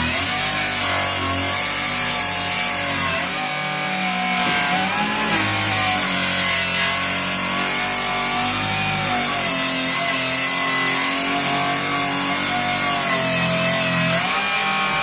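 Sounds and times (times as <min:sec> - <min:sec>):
power saw cutting lumber: 0:00.0 - 0:15.0.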